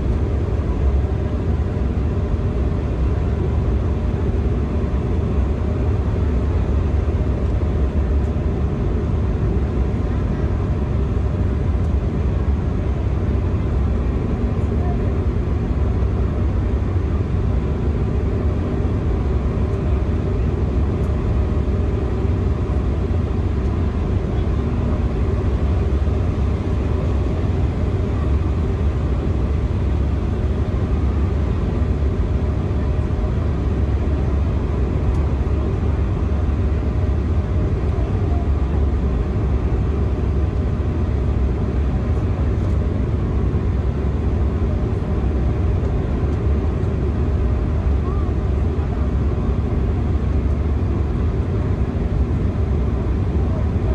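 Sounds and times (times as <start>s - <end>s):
jet airliner cabin rumble: 0.0s - 53.9s.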